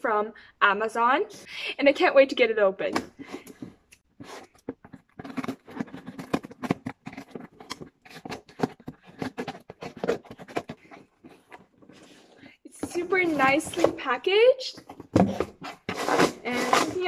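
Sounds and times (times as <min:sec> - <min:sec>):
cardboard rattling: 0:03.0 - 0:17.0.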